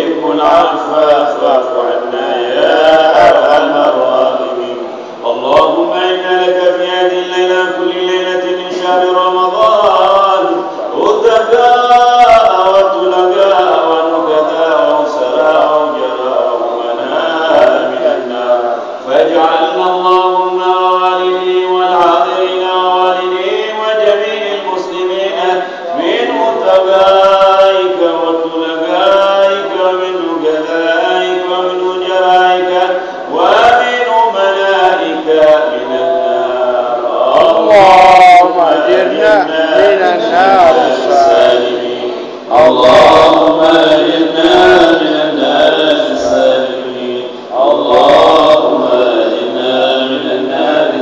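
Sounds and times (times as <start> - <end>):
man chanting melodically: 0.0 - 51.0.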